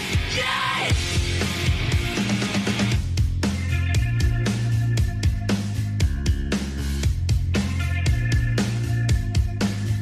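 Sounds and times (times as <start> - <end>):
band music with guitar and drums: 0.0 - 10.0.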